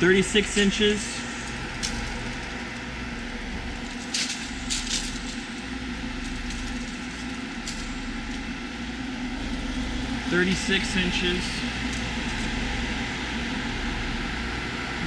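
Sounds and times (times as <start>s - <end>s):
fans and pump humming: 0.0s - 15.0s.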